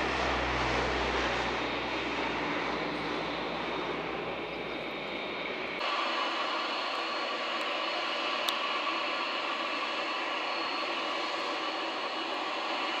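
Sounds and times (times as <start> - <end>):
distant turboprop aircraft drone: 0.0 - 13.0.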